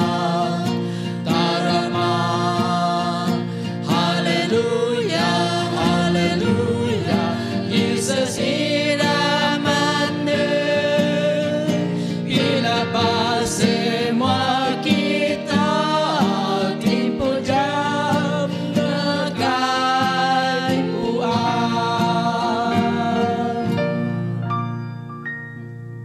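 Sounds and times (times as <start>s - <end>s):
group singing a hymn: 0.0s - 24.3s
acoustic guitar: 0.0s - 26.0s.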